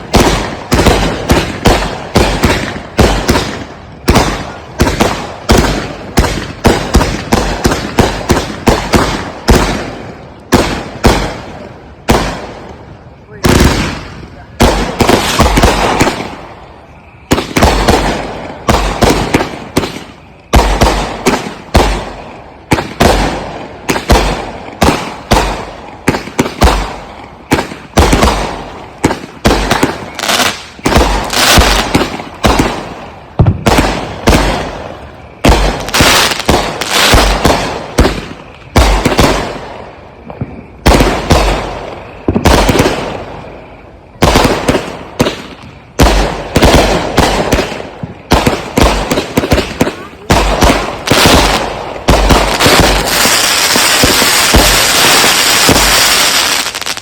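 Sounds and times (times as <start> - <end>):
firework booms: 0.0 - 57.0.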